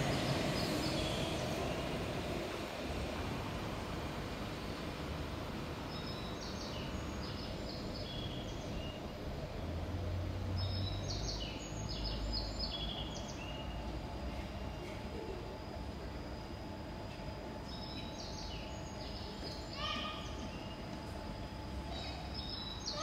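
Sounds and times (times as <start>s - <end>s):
station background noise: 0.0s - 23.0s
train low rumble: 0.0s - 23.0s.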